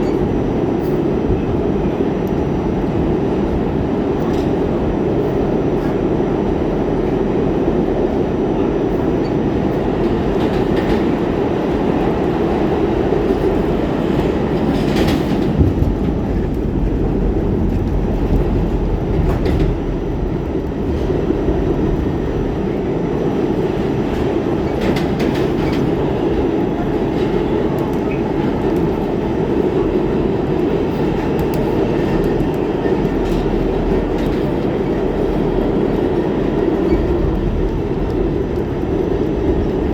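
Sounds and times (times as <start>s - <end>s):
subway train rumbling: 0.0s - 39.9s.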